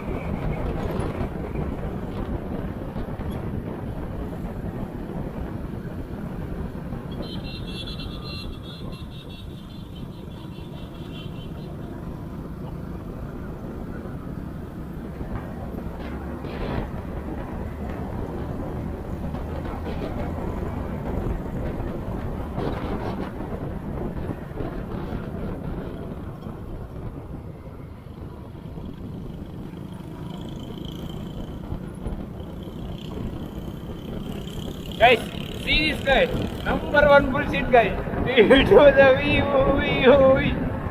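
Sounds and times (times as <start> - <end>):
motorbike engine rumble: 0.0 - 40.9.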